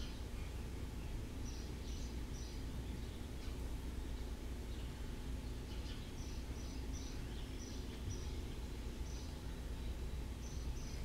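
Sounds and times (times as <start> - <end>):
low outdoor background rumble: 0.0 - 11.0
small bird chirping: 0.0 - 11.0.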